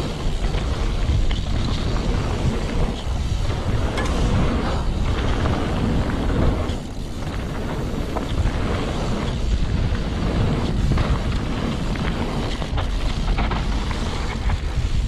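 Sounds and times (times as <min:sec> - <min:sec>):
bike clicks and rattles: 0:00.0 - 0:15.0
tyres rumbling over dirt: 0:00.0 - 0:15.0
wind buffeting microphone: 0:00.0 - 0:15.0.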